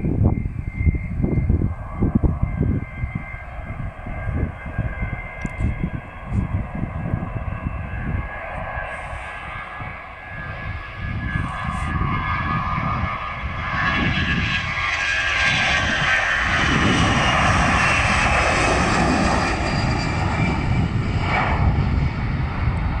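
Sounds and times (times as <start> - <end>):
jet engines rumble and whine: 0.0 - 23.0.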